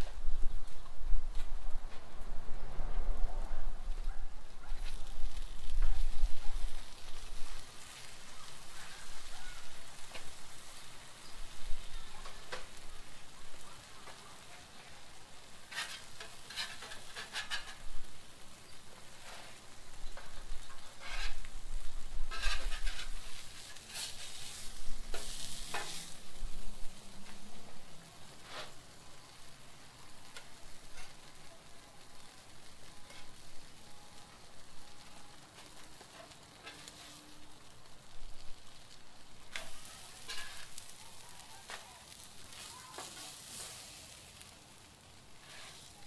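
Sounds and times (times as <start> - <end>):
food sizzling on a griddle: 0.0 - 46.0
metal spatula scraping griddle: 4.8 - 13.1, 13.9 - 31.5, 32.2 - 37.7, 38.8 - 46.0.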